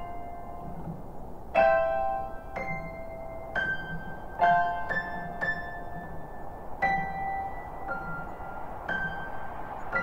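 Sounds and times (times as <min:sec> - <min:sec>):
slow piano notes: 0:00.0 - 0:10.0.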